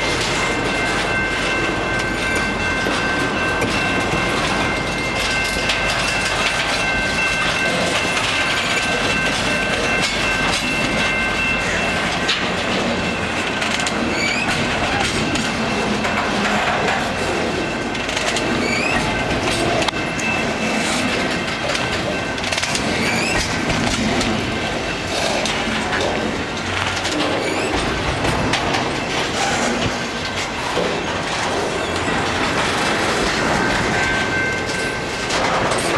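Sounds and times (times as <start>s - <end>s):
high ringing tone: 0.0s - 35.9s
train wheels clattering on rails: 0.0s - 35.9s.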